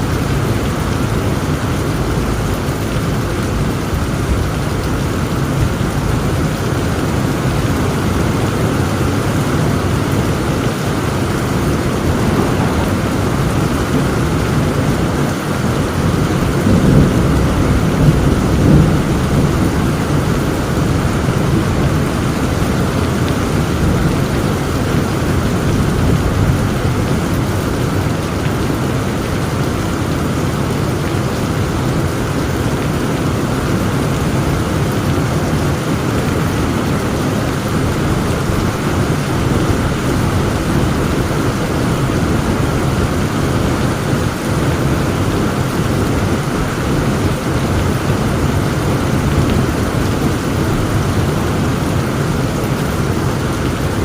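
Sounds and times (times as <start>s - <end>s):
heavy rain: 0.0s - 54.0s
low rumble of thunder: 0.0s - 54.0s.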